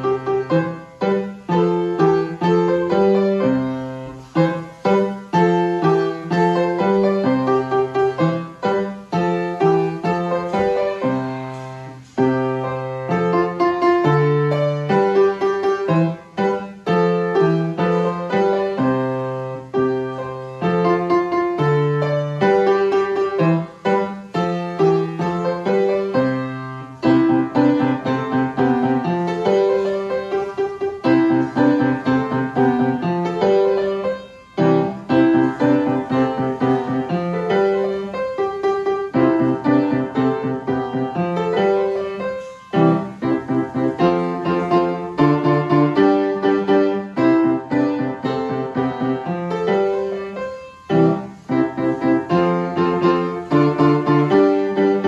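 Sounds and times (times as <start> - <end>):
upright piano piece: 0.0 - 55.0.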